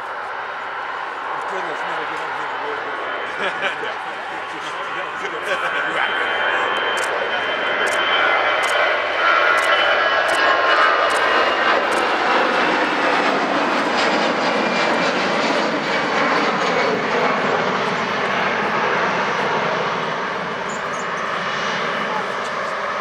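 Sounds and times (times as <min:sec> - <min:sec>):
airliner engines roaring: 0:00.0 - 0:23.0
high engine whine: 0:00.0 - 0:23.0.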